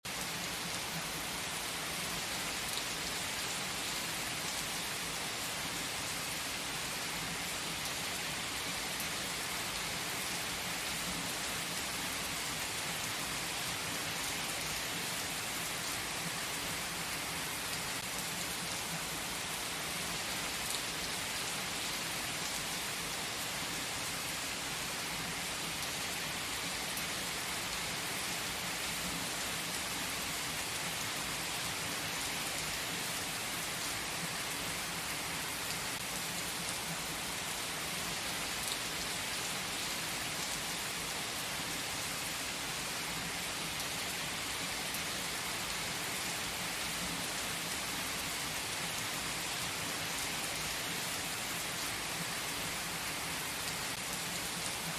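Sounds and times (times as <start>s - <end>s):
rain hissing on a surface: 0.0s - 54.9s.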